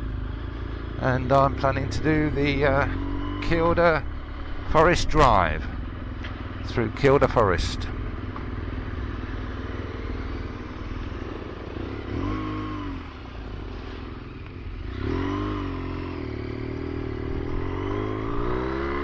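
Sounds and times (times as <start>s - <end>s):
motorcycle engine revving: 0.0s - 19.0s
wind and road noise: 0.0s - 19.0s.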